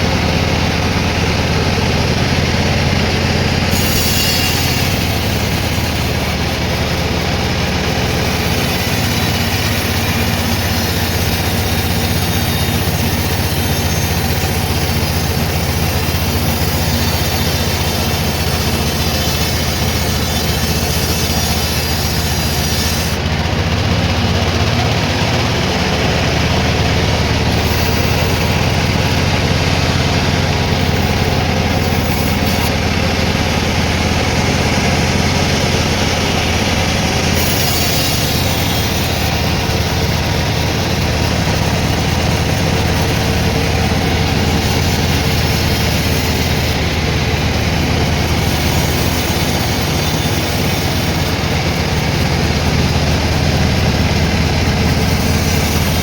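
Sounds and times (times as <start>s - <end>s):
saw cutting through log: 0.0s - 56.0s
sawmill machinery running: 0.0s - 56.0s.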